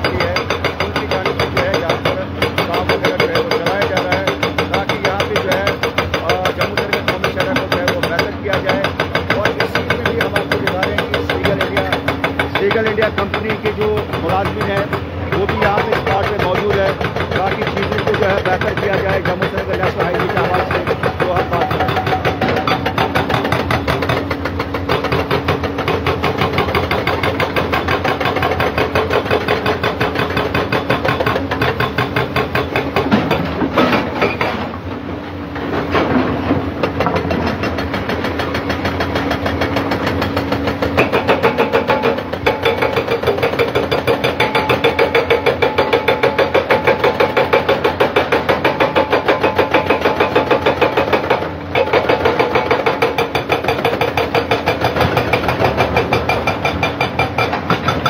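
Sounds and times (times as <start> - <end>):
excavator diesel engines: 0.0 - 58.0
hydraulic rock breaker hammering: 0.0 - 58.0.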